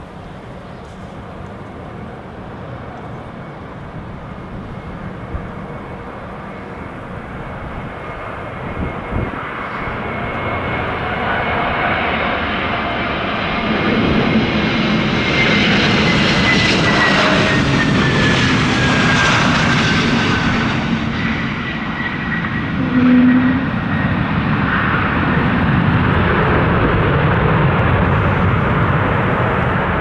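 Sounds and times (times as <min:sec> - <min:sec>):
high jet whine: 0:00.0 - 0:30.0
jet airliner engine noise: 0:00.0 - 0:30.0.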